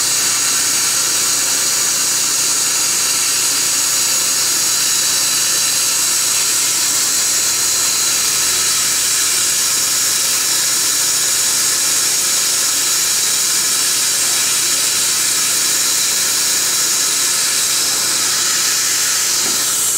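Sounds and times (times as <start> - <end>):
dental handpiece air-water spray: 0.0 - 19.9
dental suction hiss: 0.0 - 19.9.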